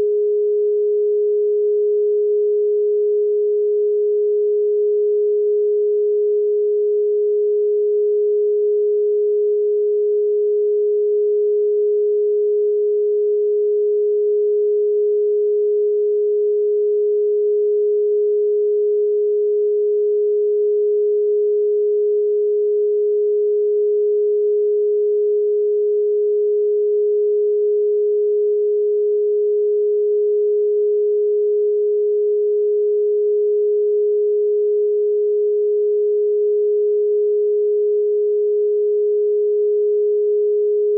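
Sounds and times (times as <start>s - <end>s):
steady sine tone: 0.0s - 40.9s.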